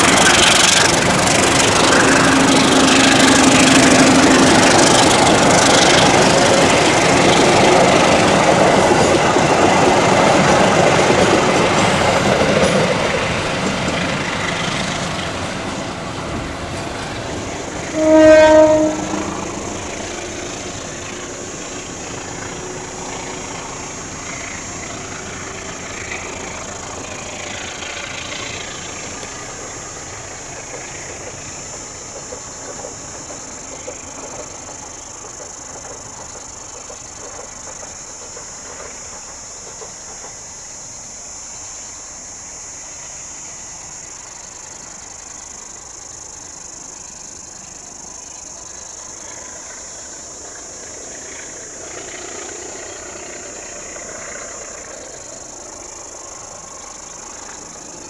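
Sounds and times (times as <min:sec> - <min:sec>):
high-pitched insect drone: 0:00.0 - 0:58.0
passenger train rumble: 0:00.0 - 0:58.0.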